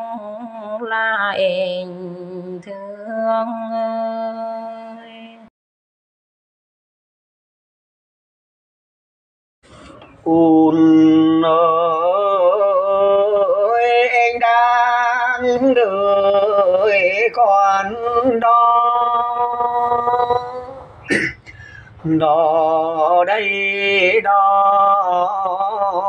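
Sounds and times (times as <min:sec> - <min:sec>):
person singing wordless vowel: 0:00.0 - 0:05.5, 0:09.7 - 0:26.0.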